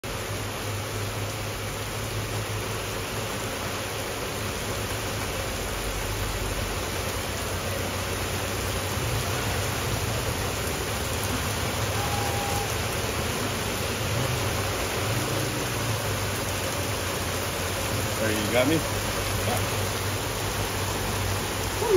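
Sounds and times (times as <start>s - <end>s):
rain on wet pavement: 0.0s - 21.9s.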